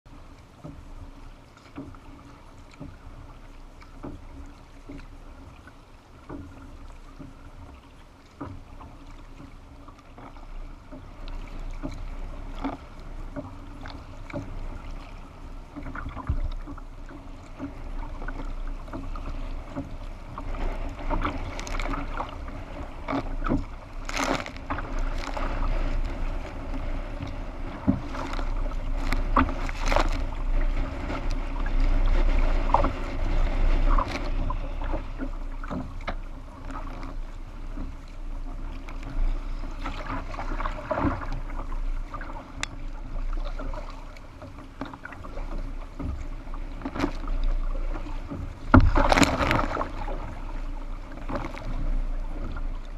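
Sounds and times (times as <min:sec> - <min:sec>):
paddle strokes: 0:00.1 - 0:52.9
water slapping hull: 0:00.1 - 0:52.9
wind rumbling on microphone: 0:00.1 - 0:52.9.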